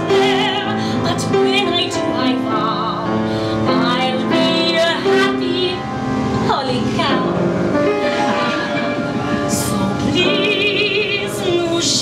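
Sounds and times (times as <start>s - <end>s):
woman singing with vibrato: 0.0s - 7.4s, 9.3s - 12.0s
grand piano: 0.0s - 12.0s.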